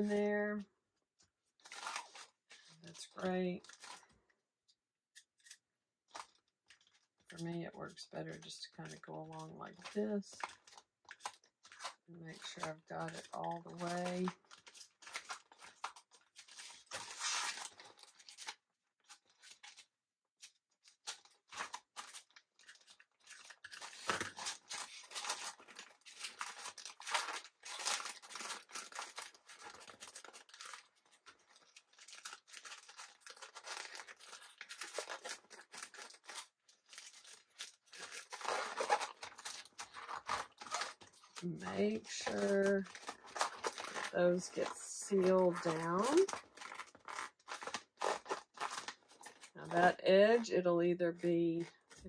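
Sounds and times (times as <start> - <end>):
crinkling of chip bag: 5.5 - 7.4, 8.7 - 50.5.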